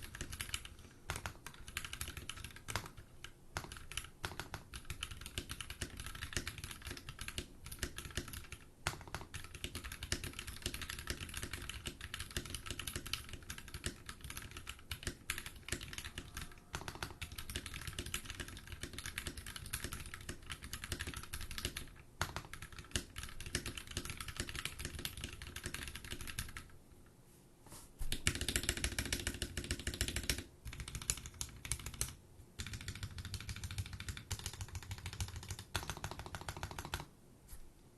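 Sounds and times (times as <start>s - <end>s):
mechanical keyboard typing: 0.0s - 26.7s, 28.1s - 37.1s.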